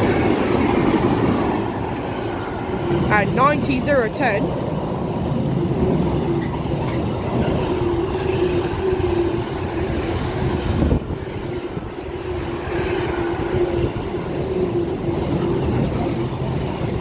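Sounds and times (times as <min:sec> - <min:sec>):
freight train rolling past: 0:00.0 - 0:17.0
train whine: 0:00.0 - 0:17.0.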